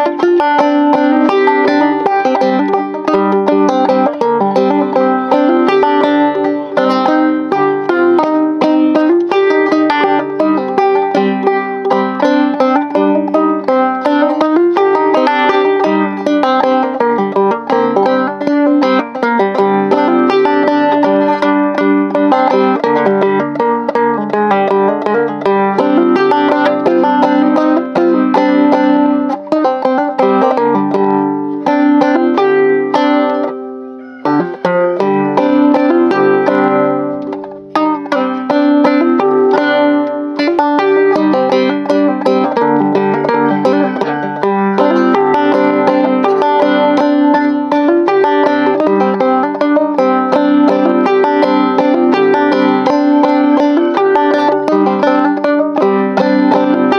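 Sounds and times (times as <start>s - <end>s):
banjo picking a melody: 0.0s - 56.9s.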